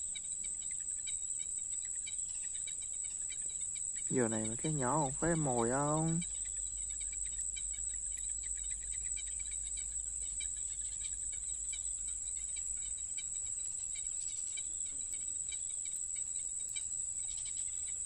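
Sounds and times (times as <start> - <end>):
crickets chirping rapidly: 0.0 - 18.0
insects trilling: 0.0 - 18.0.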